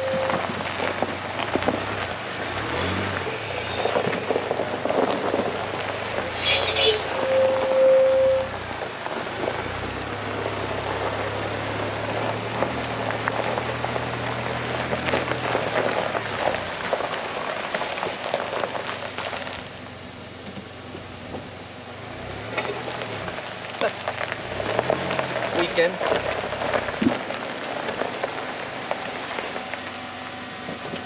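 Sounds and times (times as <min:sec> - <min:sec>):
truck engine humming: 0:00.0 - 0:31.0
tyres crunching on gravel: 0:00.0 - 0:31.0.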